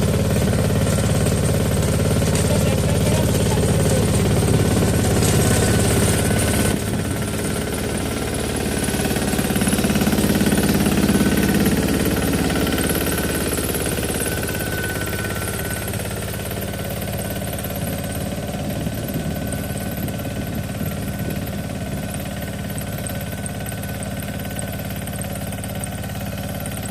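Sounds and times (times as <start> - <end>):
tractor diesel engine clattering: 0.0 - 26.9.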